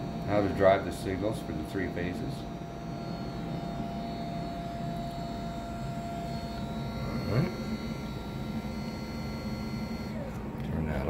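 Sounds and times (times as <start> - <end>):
thin steady tones: 0.0 - 10.3
electric motor whirring hum: 0.0 - 11.0.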